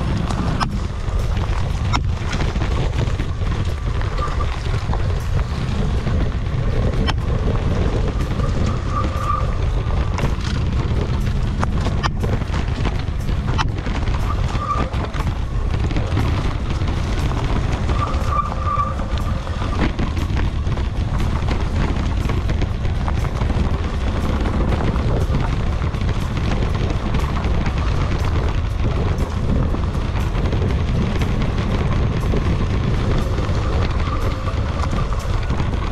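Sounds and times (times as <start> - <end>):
background music: 0.0 - 35.9
bike knocks and rattles: 0.0 - 35.9
wind rumble on microphone: 0.0 - 35.9.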